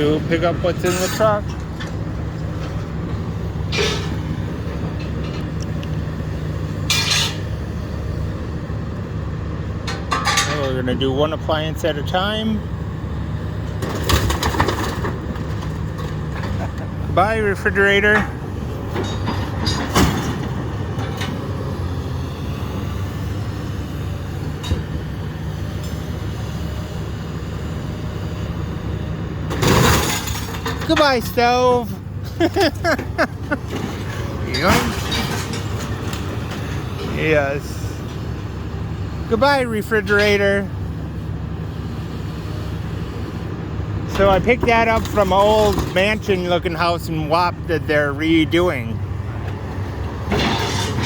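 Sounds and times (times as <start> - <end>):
machine engine droning: 0.0 - 51.0.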